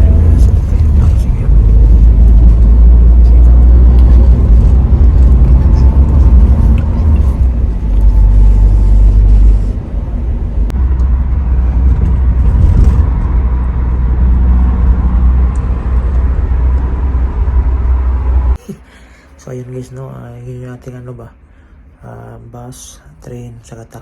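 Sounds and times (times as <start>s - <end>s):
road and engine rumble: 0.0s - 24.0s.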